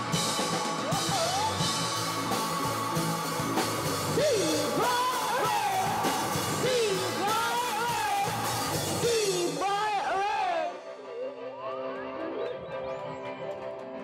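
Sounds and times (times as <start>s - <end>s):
drums: 0.0s - 14.0s
guitar: 0.0s - 14.0s
rock band playing live: 0.0s - 14.0s.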